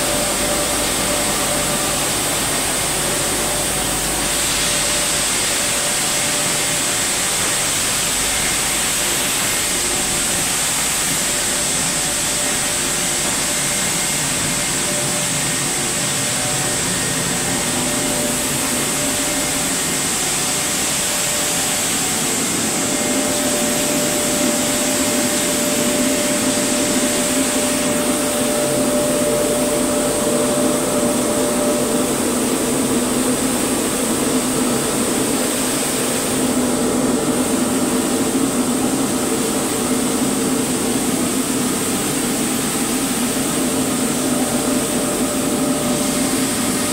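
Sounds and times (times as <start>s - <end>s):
machinery whirring hum with hiss: 0.0s - 46.9s.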